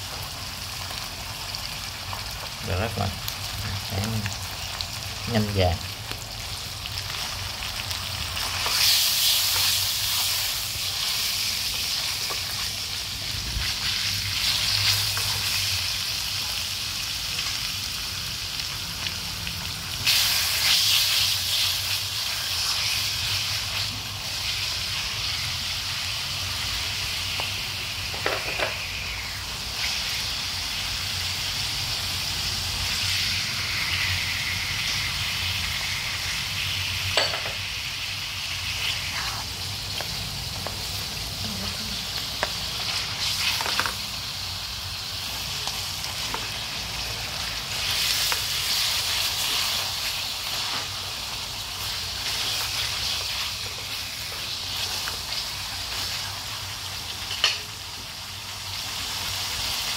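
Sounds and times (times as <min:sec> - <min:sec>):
meat sizzling in oil: 0:00.0 - 0:59.9.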